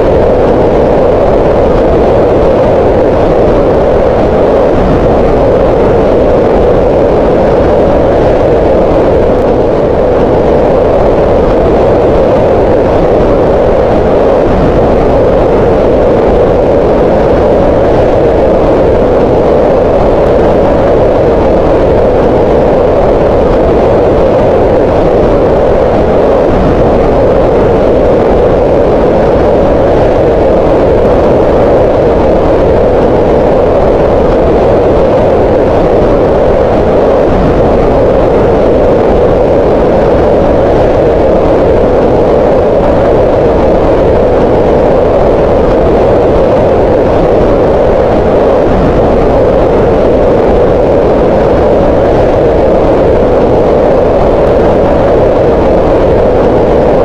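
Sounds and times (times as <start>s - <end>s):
steady synthetic noise rush: 0.0s - 57.0s.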